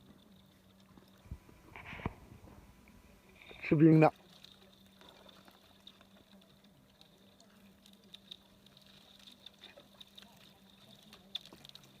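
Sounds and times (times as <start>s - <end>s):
small water sounds: 0.0s - 12.0s
steady low hum: 0.0s - 12.0s.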